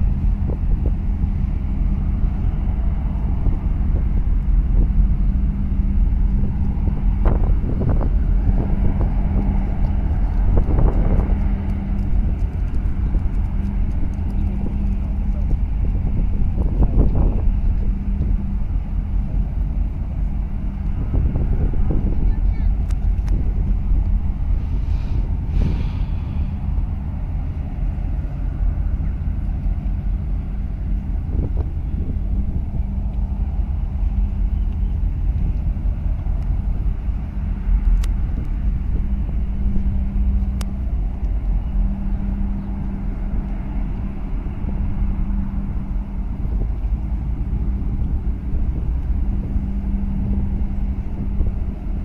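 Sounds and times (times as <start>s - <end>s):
low hum: 0.0s - 52.0s
ship engines rumbling: 0.0s - 52.0s.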